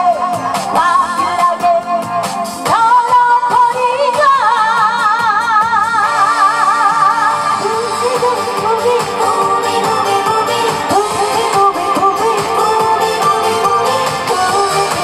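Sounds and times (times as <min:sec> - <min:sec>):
woman singing into a microphone: 0:00.0 - 0:15.0.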